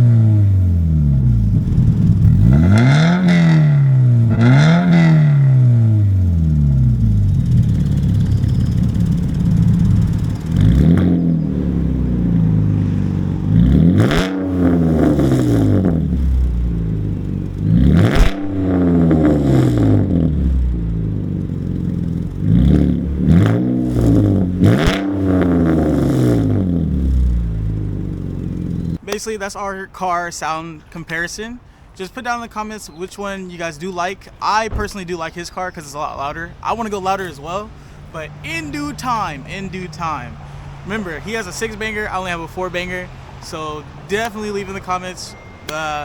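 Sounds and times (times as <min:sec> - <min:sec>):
car engine idling and revving: 0:00.0 - 0:29.1, 0:36.4 - 0:46.0.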